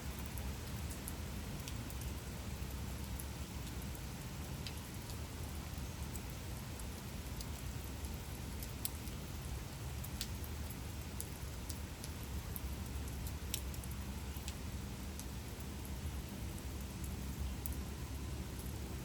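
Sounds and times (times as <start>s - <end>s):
gentle rain falling: 0.0s - 19.0s
raindrops ticking: 0.0s - 19.0s.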